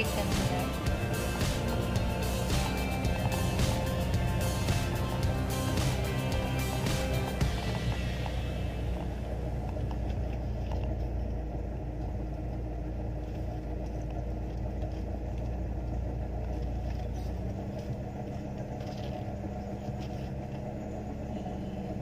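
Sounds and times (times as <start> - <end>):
car engine hum inside cabin: 0.0 - 22.0.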